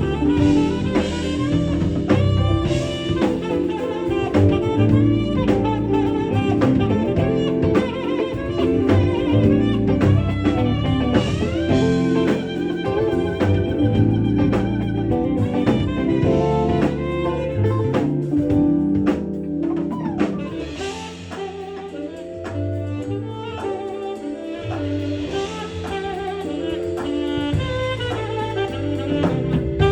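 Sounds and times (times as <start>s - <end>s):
drum kit beat: 0.0s - 29.9s
jazz band playing: 0.0s - 29.9s.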